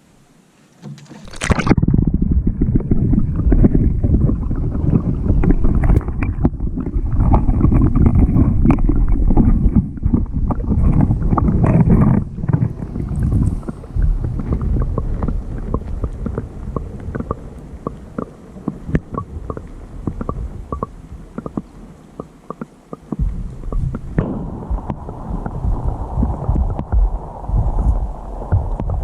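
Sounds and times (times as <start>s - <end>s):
wind buffeting microphone: 1.6s - 21.9s, 23.1s - 29.0s.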